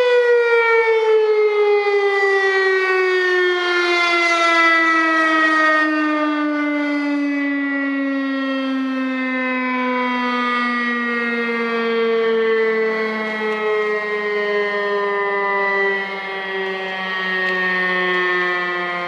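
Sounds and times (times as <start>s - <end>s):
warning siren winding down: 0.0s - 19.0s.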